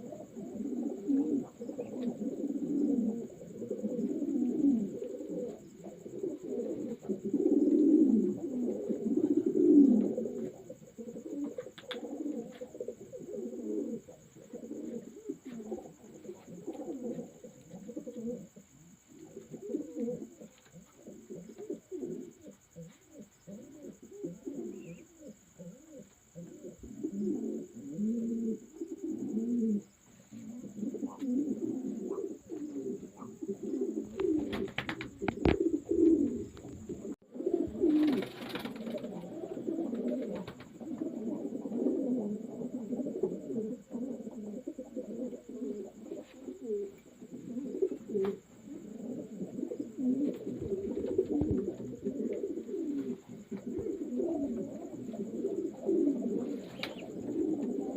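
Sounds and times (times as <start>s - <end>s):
pigeons cooing: 0.0s - 57.9s.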